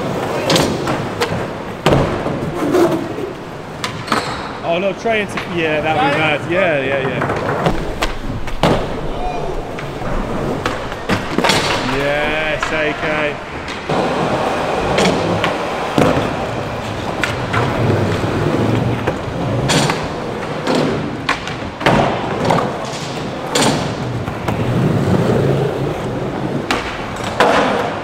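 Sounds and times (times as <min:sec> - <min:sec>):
skateboard clacks and thuds: 0:00.0 - 0:04.6, 0:06.8 - 0:28.0
skateboard wheels rolling: 0:00.0 - 0:28.0.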